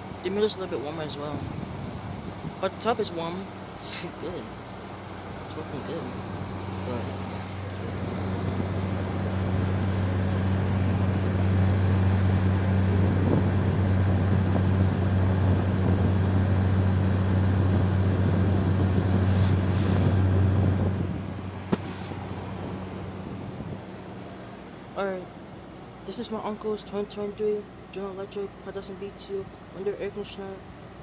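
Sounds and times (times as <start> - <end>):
air conditioner compressor hum: 0.0 - 31.0
air conditioner fan: 0.0 - 31.0.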